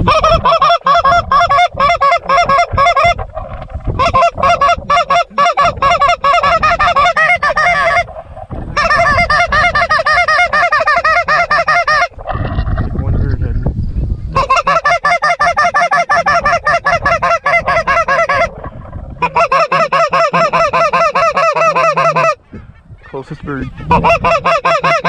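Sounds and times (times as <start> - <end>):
goose clucking and honking: 0.0 - 13.0, 14.3 - 25.0.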